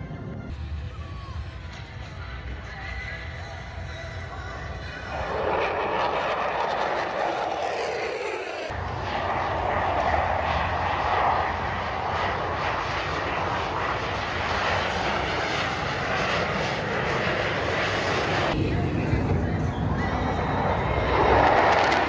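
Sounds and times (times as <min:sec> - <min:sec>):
airplane flying by: 0:00.0 - 0:22.0.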